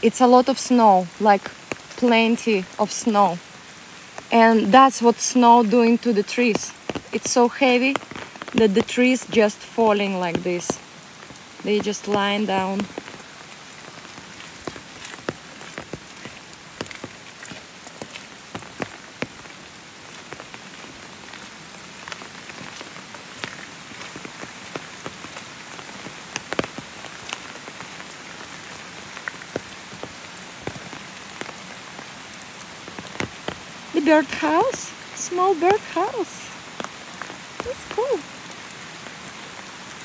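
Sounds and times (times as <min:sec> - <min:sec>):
raindrops tapping: 0:00.0 - 0:40.0
steady rain hiss: 0:00.0 - 0:40.0.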